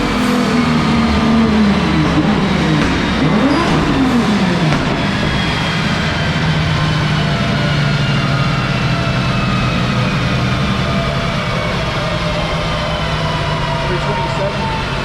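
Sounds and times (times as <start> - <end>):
car engine idling: 0.0 - 15.0
high whine dropping in pitch: 0.0 - 15.0.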